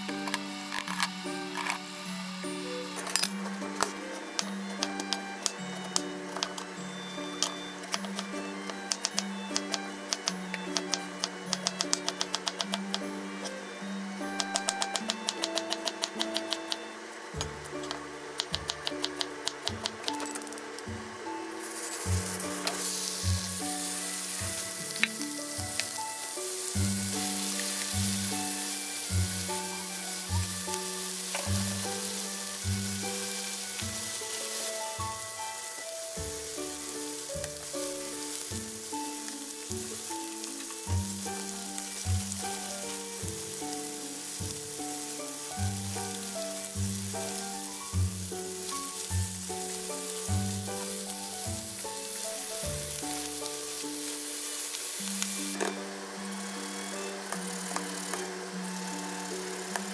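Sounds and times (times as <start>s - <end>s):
food sizzling in oil: 0.0s - 20.6s, 21.5s - 59.9s.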